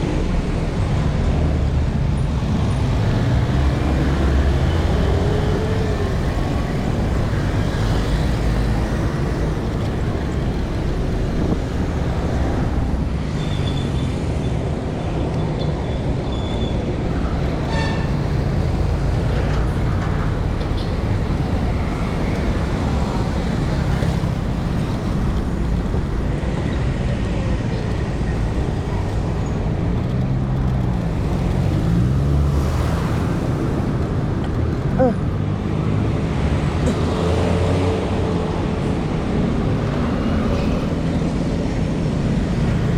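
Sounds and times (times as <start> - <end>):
vehicles passing by: 0.0 - 42.9.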